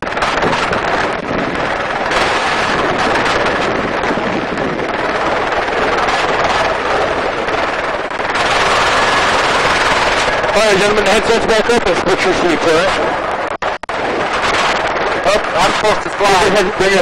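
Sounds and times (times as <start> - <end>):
helicopter rotor and engine: 0.0 - 17.0
wind buffeting microphone: 0.0 - 17.0.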